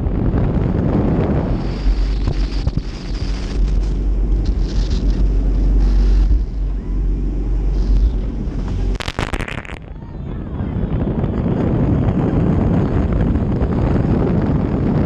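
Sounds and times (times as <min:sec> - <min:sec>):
boat rushing over water: 0:00.0 - 0:15.0
wind buffeting microphone: 0:00.0 - 0:15.0.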